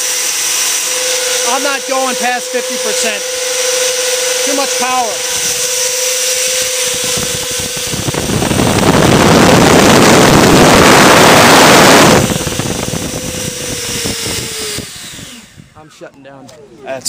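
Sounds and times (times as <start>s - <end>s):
electric ducted fans whining: 0.0s - 17.0s.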